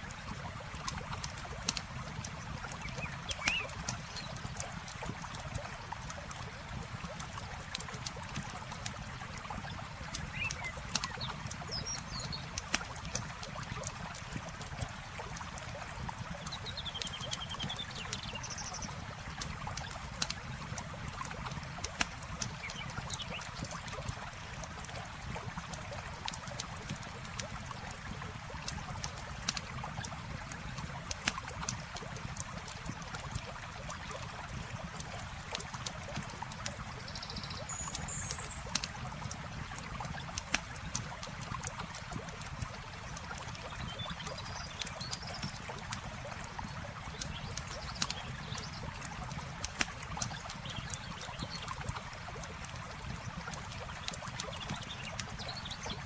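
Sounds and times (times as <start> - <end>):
river water flowing: 0.0 - 56.0
campfire crackling and popping: 0.3 - 37.0, 37.9 - 43.6, 44.2 - 55.4.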